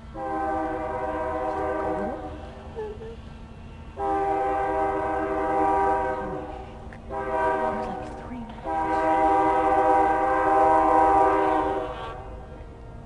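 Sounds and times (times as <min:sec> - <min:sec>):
low rumble of train: 0:00.0 - 0:13.0
locomotive air horn blasts: 0:00.1 - 0:02.6, 0:04.0 - 0:12.5.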